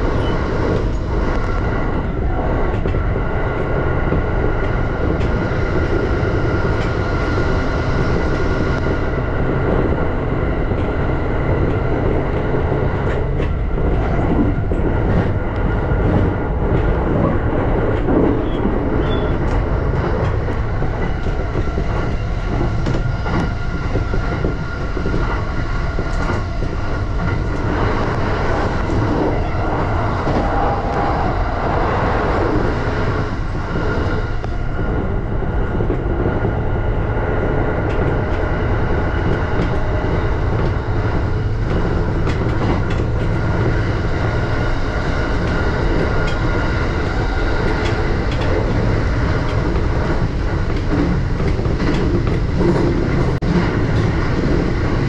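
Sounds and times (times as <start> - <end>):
constant train hum: 0.0 - 55.0
rail joint clicks: 0.0 - 55.0
train wheels rumbling on rail: 0.0 - 55.0.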